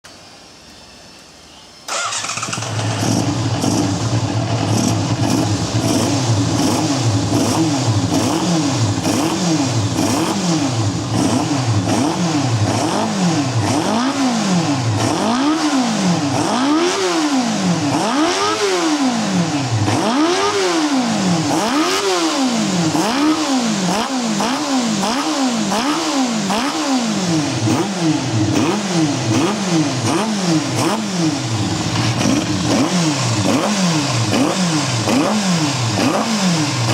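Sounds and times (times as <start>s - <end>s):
engine revving: 1.9s - 36.9s.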